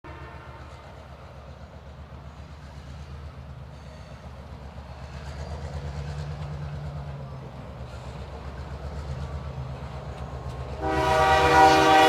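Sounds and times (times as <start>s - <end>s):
diesel locomotives rumbling: 0.1s - 12.0s.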